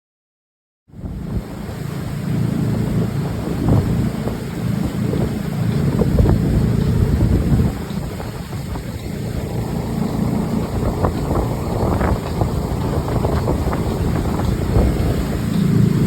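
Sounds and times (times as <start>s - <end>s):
boat engine: 0.9s - 16.0s
water rushing: 1.0s - 16.0s
wind buffeting microphone: 1.0s - 16.0s.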